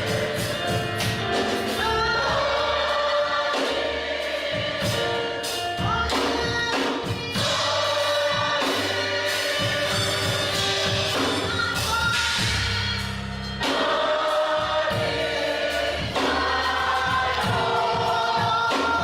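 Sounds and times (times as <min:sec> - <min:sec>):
choir singing held chords: 0:00.0 - 0:06.2, 0:06.8 - 0:19.0
band with bass and drums: 0:00.0 - 0:19.0.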